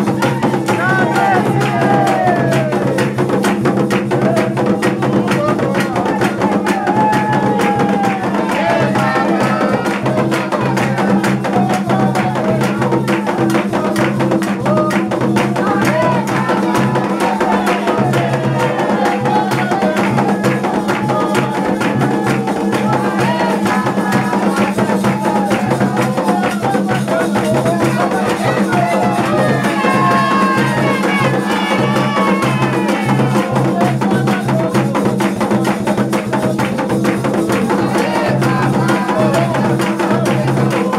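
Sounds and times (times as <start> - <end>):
drums and percussion: 0.0 - 40.9
voices singing a chant: 0.0 - 40.9.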